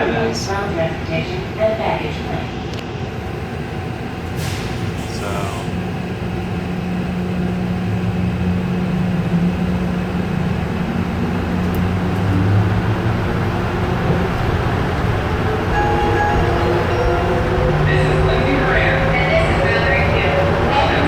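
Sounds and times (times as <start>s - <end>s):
train rumbling in tunnel: 0.0s - 21.0s.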